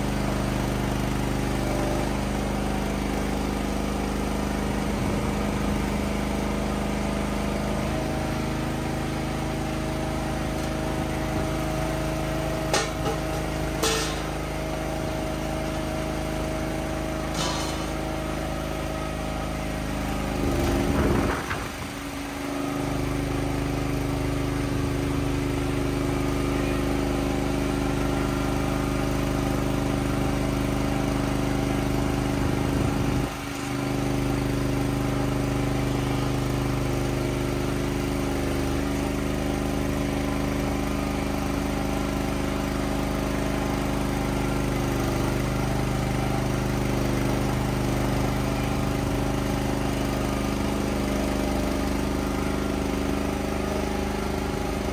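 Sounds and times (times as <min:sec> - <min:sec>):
small cart motor running: 0:00.0 - 0:54.9.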